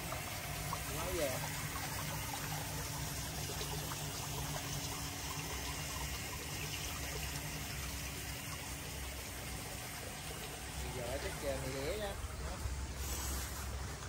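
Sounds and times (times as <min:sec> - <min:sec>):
stream trickling over stones: 0:00.0 - 0:14.0.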